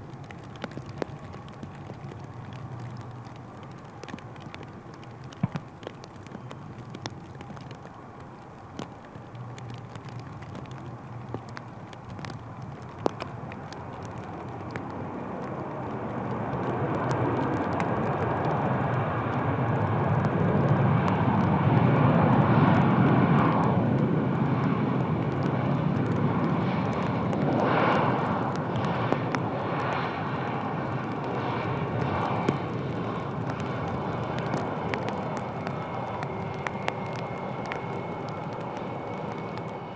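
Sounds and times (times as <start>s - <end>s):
airliner engine noise: 0.0s - 39.9s
rain ticking on camera cover: 0.0s - 39.9s.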